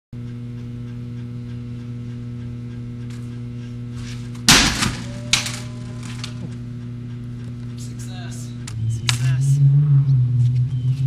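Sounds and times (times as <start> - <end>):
electrical hum: 0.2 - 11.0.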